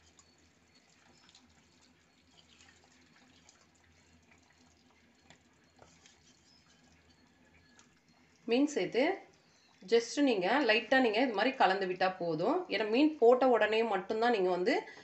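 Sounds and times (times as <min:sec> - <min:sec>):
faint wet ticks and drips: 0:00.0 - 0:12.2
faint low hum: 0:00.0 - 0:15.0.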